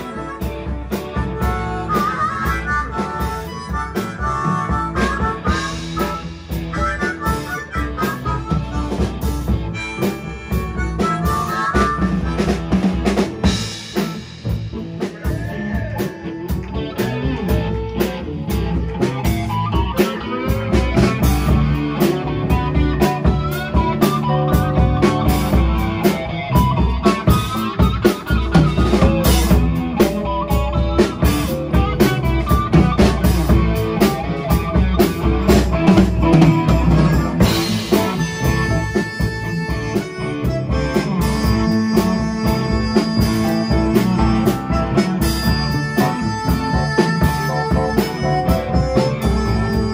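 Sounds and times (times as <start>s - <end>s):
blues-rock band playing: 0.0s - 49.9s
drum kit beats and rimshots: 0.0s - 49.9s.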